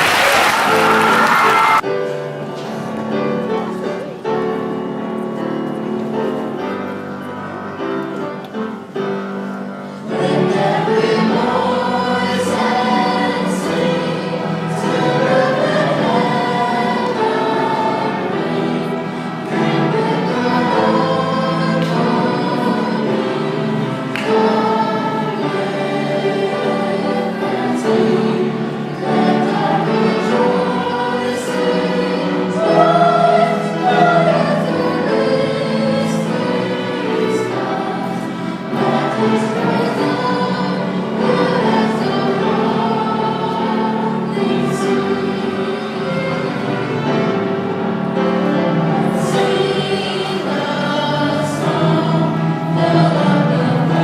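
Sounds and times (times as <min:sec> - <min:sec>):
choir singing sustained chords: 0:00.0 - 0:54.0.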